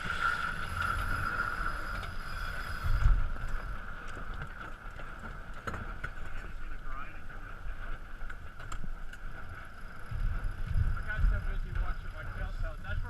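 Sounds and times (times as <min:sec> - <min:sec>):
wind and water hissing: 0:00.0 - 0:04.8, 0:05.4 - 0:13.0
wind buffeting microphone: 0:00.0 - 0:13.0.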